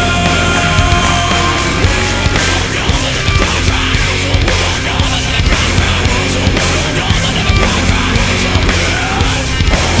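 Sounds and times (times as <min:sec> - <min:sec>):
heavy rock music: 0:00.0 - 0:10.0
pounding drum beat: 0:00.0 - 0:10.0.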